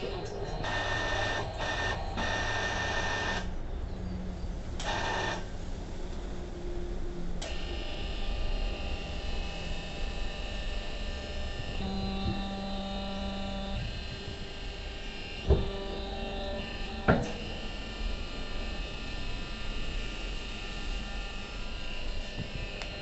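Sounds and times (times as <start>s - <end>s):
hydraulic motor and pump whining: 0.0s - 6.3s, 7.4s - 23.0s.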